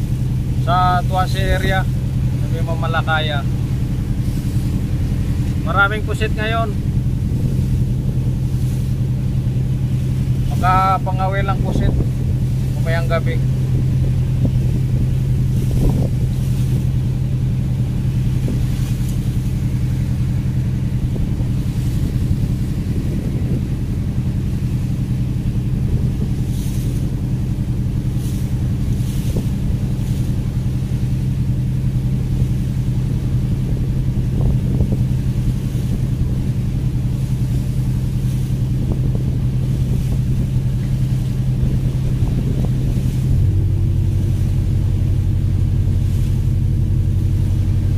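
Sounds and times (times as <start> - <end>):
boat engine droning: 0.0 - 47.9
wind on microphone: 0.0 - 47.9.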